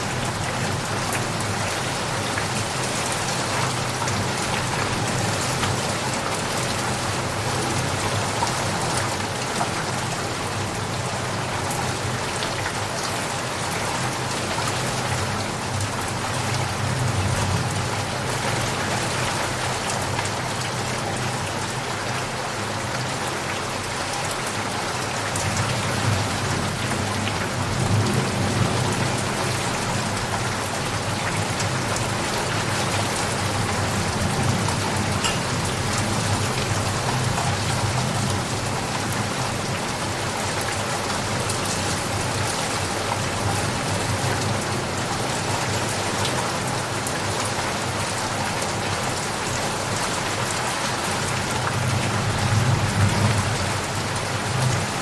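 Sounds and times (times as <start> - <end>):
dense rainfall: 0.0 - 55.0.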